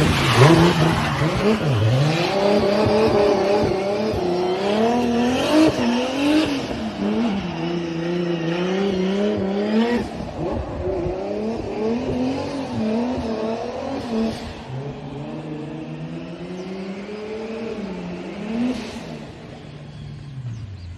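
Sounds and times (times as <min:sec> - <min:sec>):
race car engine revving: 0:00.0 - 0:19.6.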